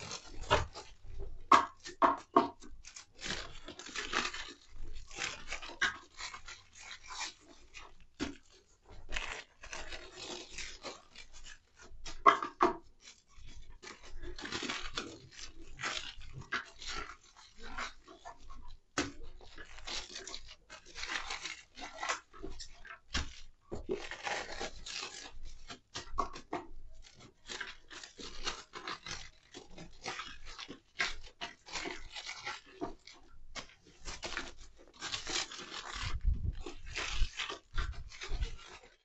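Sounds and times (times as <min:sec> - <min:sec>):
plastic wrapper crinkling: 0:00.0 - 0:39.0.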